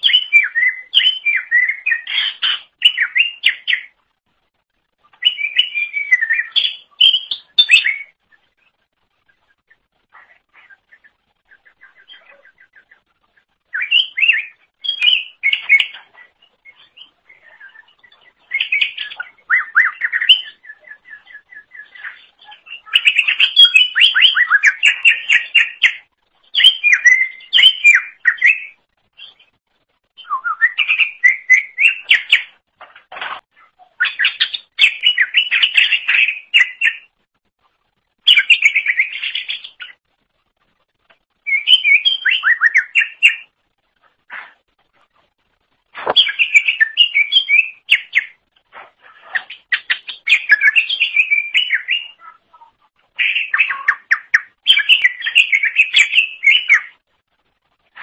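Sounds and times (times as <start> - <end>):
bird singing twittering phrases: 0.0 - 4.2, 5.0 - 29.6, 30.2 - 32.6, 33.5 - 37.2, 38.2 - 40.0, 41.4 - 43.6, 46.0 - 57.1.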